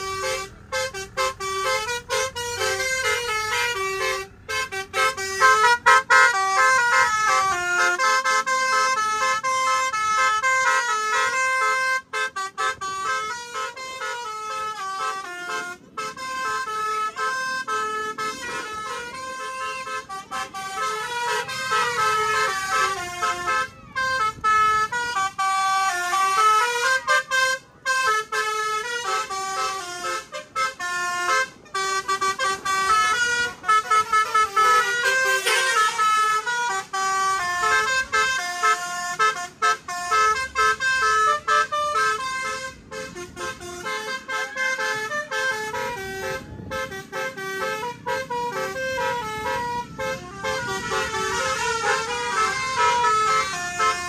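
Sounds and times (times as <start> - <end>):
bus air horn melody: 0.0 - 54.0.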